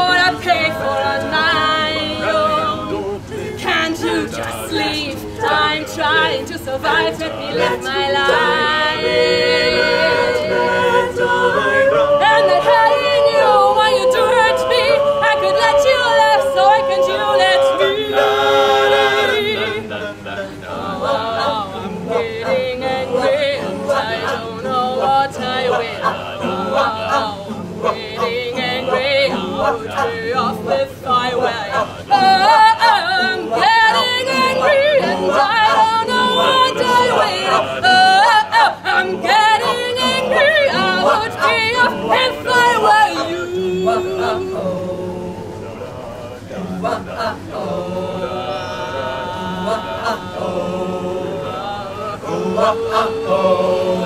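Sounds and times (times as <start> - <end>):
woman's lead voice singing: 0.0 - 45.6
group singing a cappella: 0.0 - 54.0.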